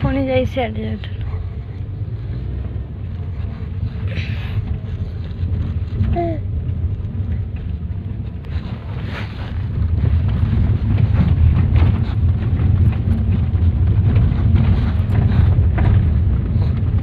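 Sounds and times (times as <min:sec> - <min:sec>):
car road and engine rumble: 0:00.0 - 0:17.0
wind noise: 0:01.8 - 0:17.0.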